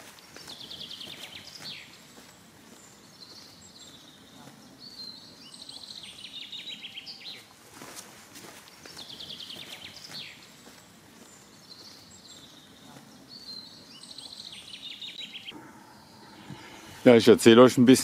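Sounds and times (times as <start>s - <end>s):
footsteps on grass and leaves: 0.0s - 14.8s
songbirds trilling: 0.0s - 18.0s.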